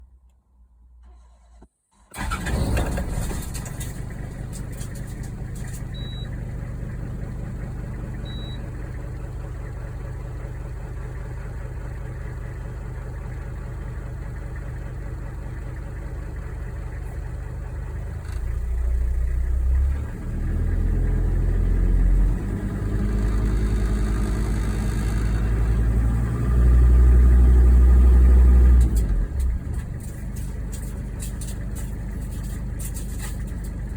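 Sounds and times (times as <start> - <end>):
diesel engine starting and running: 0.0 - 33.9.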